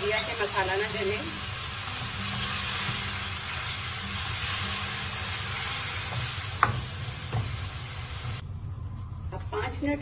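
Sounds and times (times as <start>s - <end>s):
masala sizzling in oil: 0.0s - 8.4s.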